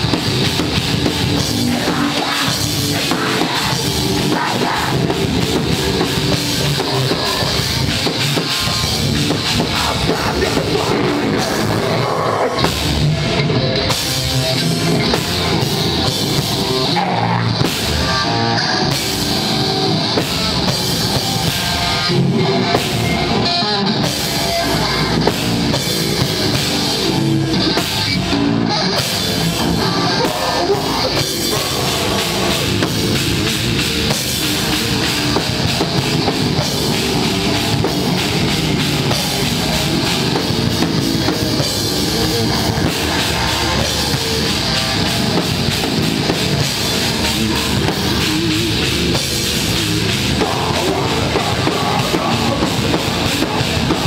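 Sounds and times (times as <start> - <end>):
heavy rock band playing: 0.0 - 54.0.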